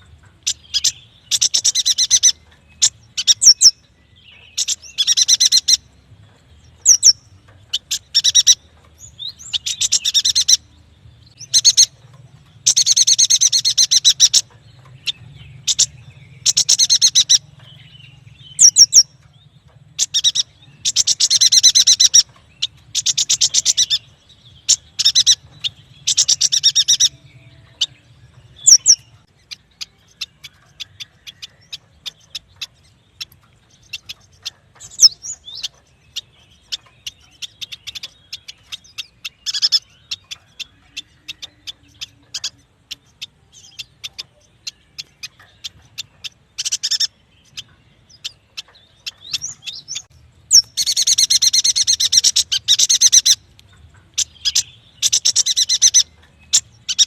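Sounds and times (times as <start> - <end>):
bird chattering trills: 0.0 - 6.0, 6.6 - 57.0.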